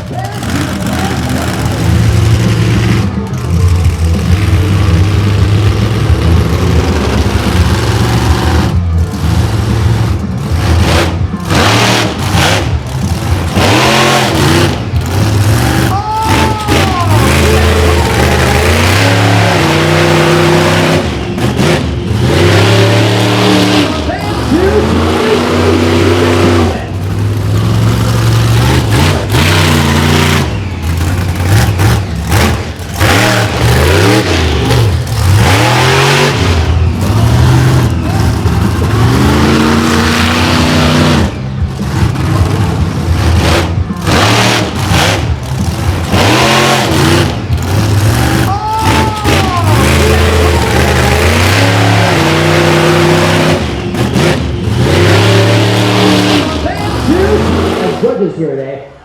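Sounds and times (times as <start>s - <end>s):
monster truck engine revving: 0.0s - 59.0s.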